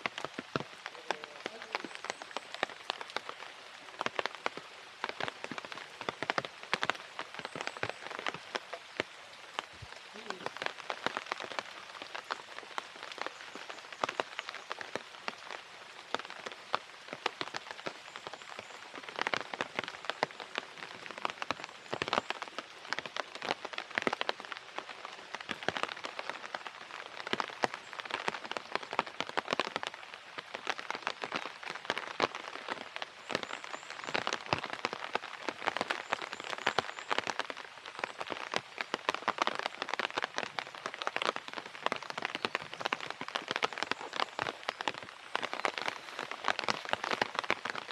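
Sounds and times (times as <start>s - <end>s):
rain: 0.0s - 47.9s
raindrop impacts: 0.0s - 47.9s.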